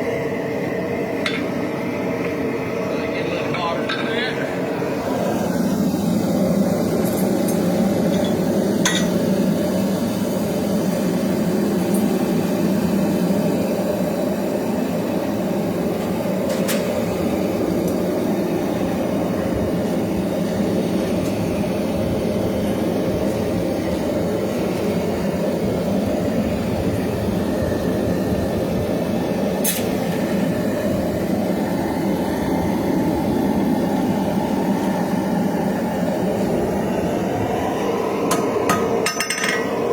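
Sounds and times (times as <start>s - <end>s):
workshop machinery running: 0.0s - 39.9s.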